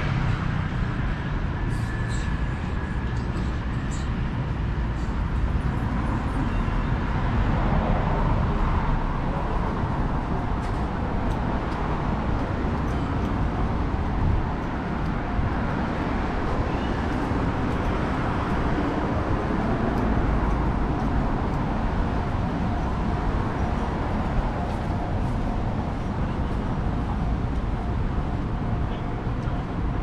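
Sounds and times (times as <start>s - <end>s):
cars passing on street: 0.0s - 30.0s.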